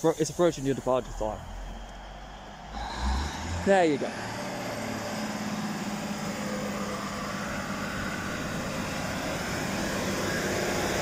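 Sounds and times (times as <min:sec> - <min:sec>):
diesel train engine humming: 0:00.0 - 0:11.0.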